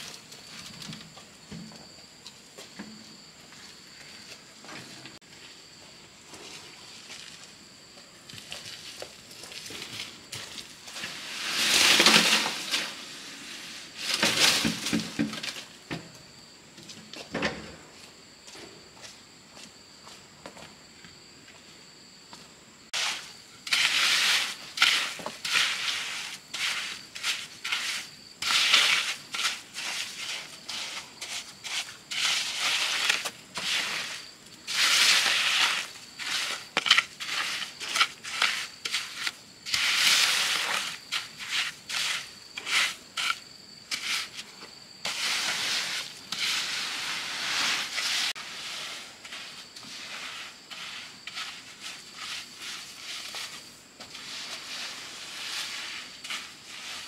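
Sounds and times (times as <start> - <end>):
tools scraping sand and cement: 0.0 - 5.2, 8.2 - 15.9, 22.9 - 57.0.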